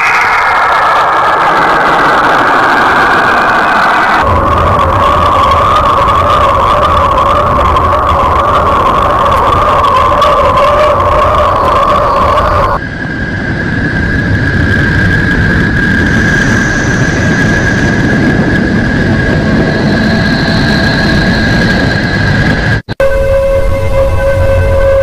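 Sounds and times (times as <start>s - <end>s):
high whistling tone: 0.0s - 1.5s, 3.3s - 25.0s
rumbling hiss: 2.3s - 22.9s.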